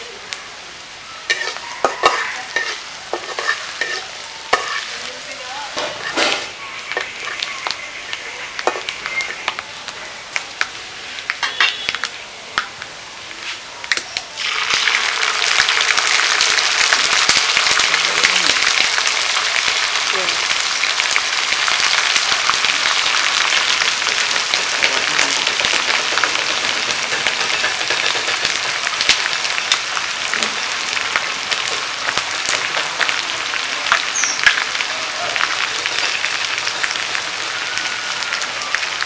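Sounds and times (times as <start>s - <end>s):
paste sizzling in hot oil: 1.1s - 9.8s, 14.0s - 39.0s.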